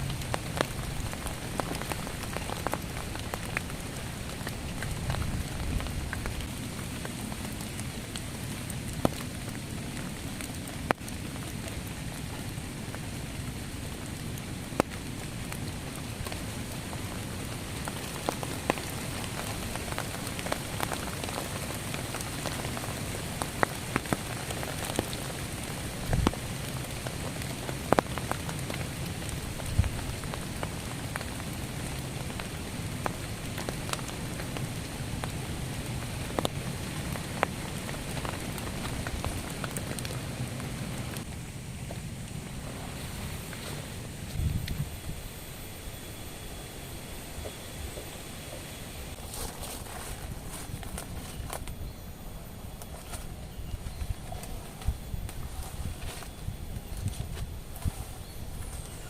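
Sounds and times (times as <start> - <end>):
heavy rain falling: 0.0 - 45.7, 46.9 - 59.0.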